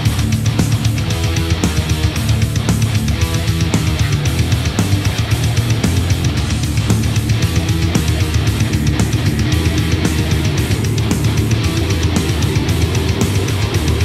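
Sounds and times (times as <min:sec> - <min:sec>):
drum kit: 0:00.0 - 0:14.0
electric guitar: 0:00.0 - 0:14.0.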